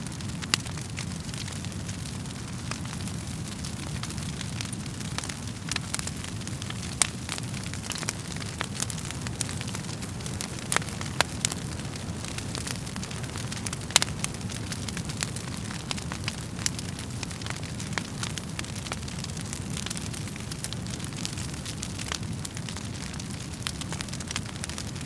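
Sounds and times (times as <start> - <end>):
fire burning rumble: 0.0 - 25.0.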